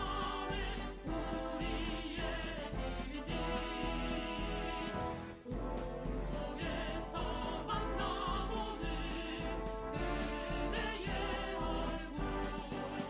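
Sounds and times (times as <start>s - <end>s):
background music with singing: 0.0s - 13.0s.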